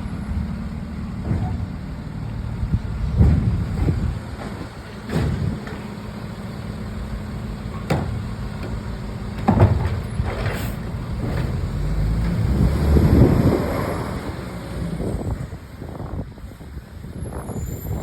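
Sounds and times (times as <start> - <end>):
garbage truck diesel engine: 0.0 - 18.0.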